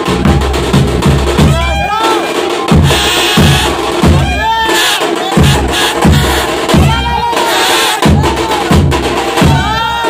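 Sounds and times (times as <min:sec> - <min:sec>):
drums beating heavy rhythm: 0:00.0 - 0:10.0.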